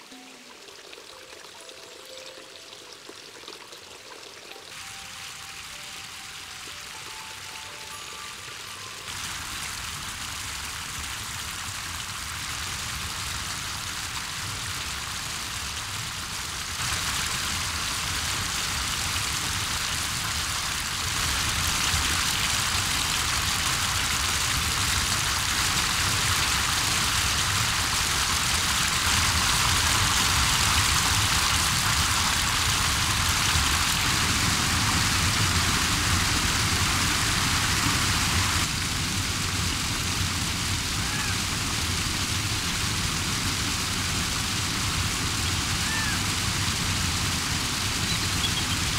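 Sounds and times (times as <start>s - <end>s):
waterfall and creek rushing: 0.0s - 48.9s.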